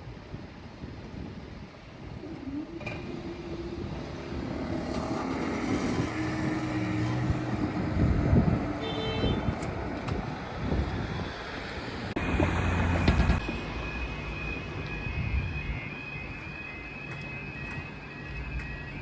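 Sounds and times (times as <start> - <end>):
road vehicles passing: 0.8 - 19.0.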